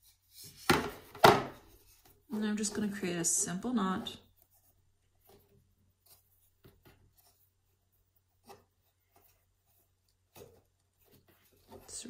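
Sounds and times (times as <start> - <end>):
faint rustling of yarn: 0.0 - 12.0.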